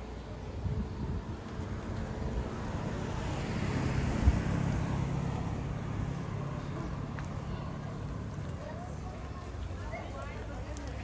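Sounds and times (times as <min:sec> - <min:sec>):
low engine hum: 0:00.0 - 0:10.0
car passing: 0:00.8 - 0:11.0.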